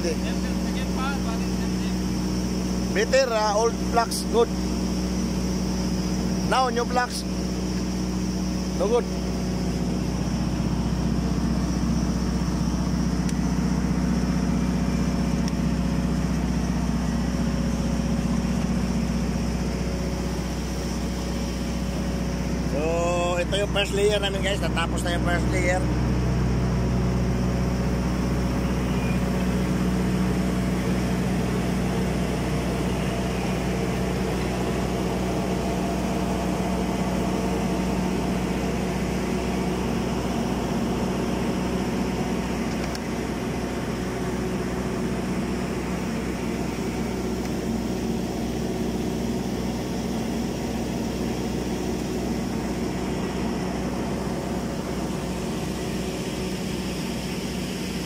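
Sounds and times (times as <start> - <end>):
site machinery humming: 0.0 - 58.0.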